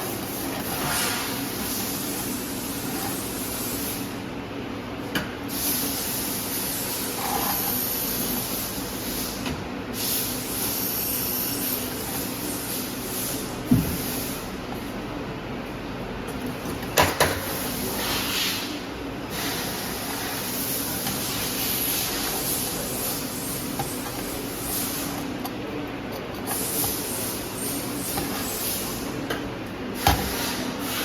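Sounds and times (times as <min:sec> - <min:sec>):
welding machine hiss: 0:00.0 - 0:04.3, 0:05.4 - 0:14.6, 0:17.4 - 0:25.5, 0:26.4 - 0:29.3, 0:29.9 - 0:31.0.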